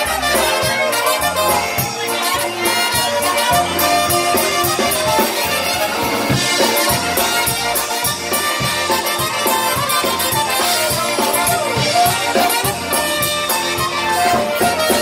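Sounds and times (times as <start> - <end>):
accordions: 0.0 - 15.0
clarinet: 0.0 - 15.0
electric bass: 0.0 - 15.0
trumpet: 0.0 - 15.0
drum beat: 0.1 - 15.0.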